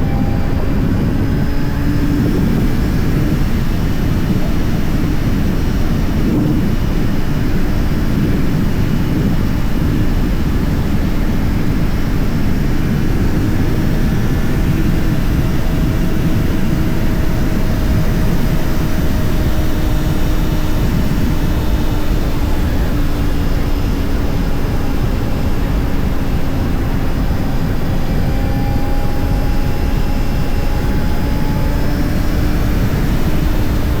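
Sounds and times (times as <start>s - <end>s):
motorcycle engine cruising: 0.0s - 34.0s
wind noise rushing: 0.0s - 34.0s.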